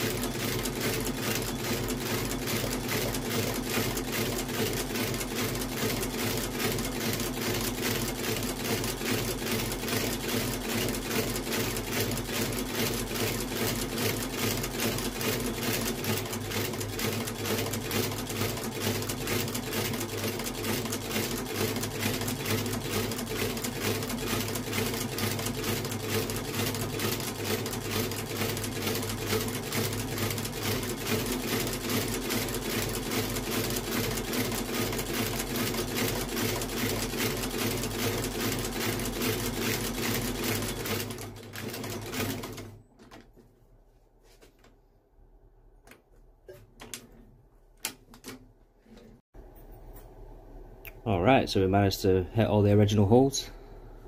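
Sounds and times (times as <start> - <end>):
stitching machine clatter: 0.0 - 43.3.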